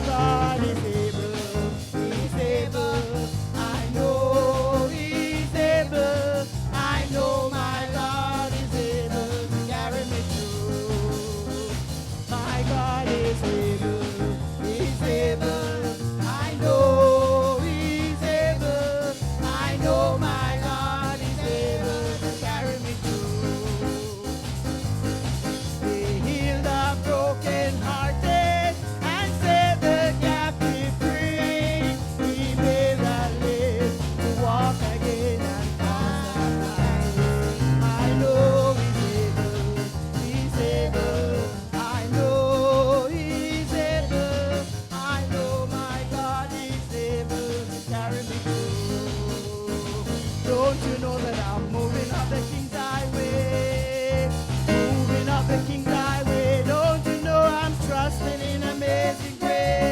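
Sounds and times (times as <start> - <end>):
instrumental accompaniment with beat: 0.0 - 59.9
person singing worship music: 0.0 - 59.9.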